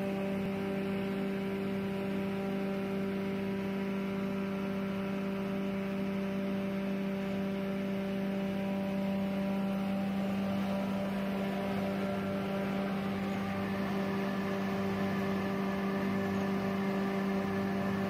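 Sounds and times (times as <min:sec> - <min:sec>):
grinder machine droning: 0:00.0 - 0:18.0.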